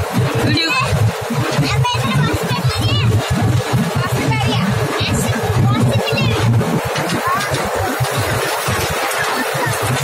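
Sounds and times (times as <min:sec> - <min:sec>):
toy train rolling on track: 0:00.0 - 0:10.0.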